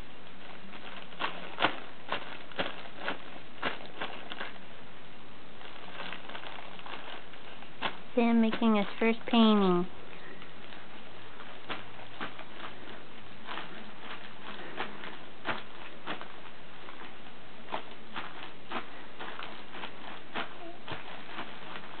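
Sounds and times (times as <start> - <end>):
plastic bag crinkling: 0.1 - 4.8, 5.4 - 22.0.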